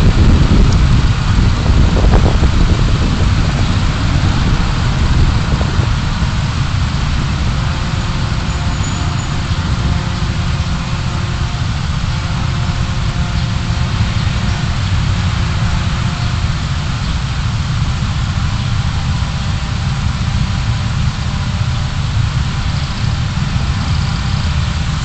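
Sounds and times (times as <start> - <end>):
engine and tyres rumbling: 0.0 - 25.0
road hiss: 0.0 - 25.0.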